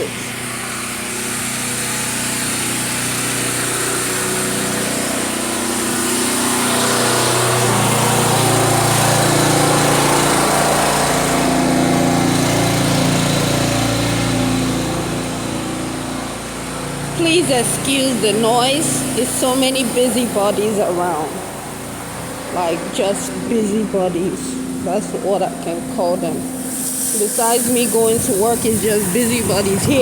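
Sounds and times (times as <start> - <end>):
small machinery engine running: 0.0 - 30.0.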